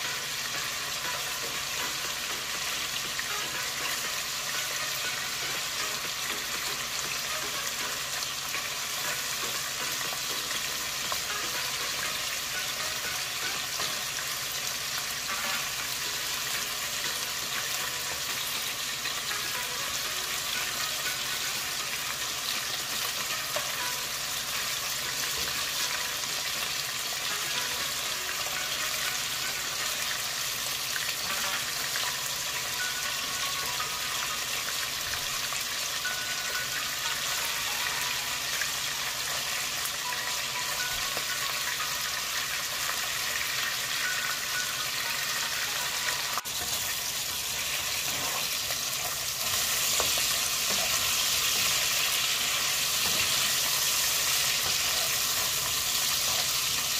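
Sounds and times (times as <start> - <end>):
food frying in hot oil: 0.0 - 56.9.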